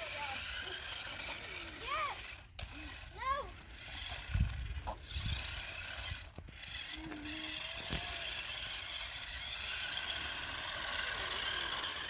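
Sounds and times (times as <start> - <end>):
toy electric motors whirring: 0.0 - 12.0.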